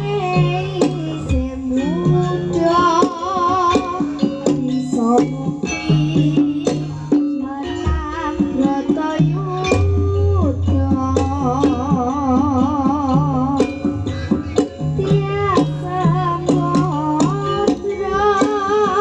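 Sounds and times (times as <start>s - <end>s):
drums and instrumental accompaniment: 0.0s - 19.0s
woman singing with vibrato: 0.0s - 19.0s.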